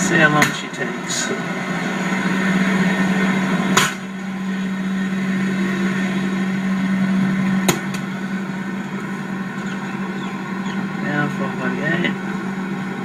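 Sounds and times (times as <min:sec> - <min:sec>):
fans whirring: 0:00.0 - 0:13.0
refrigerator humming: 0:00.0 - 0:13.0.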